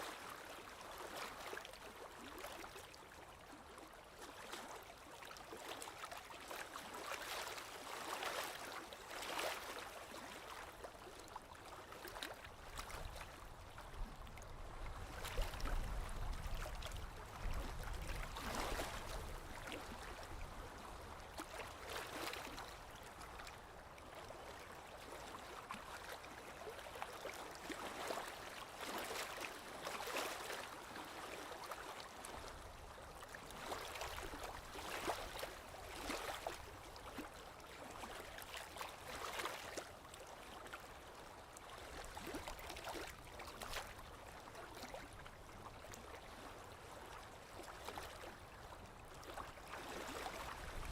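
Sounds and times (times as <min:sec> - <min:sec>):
waves lapping on shore: 0:00.0 - 0:50.9.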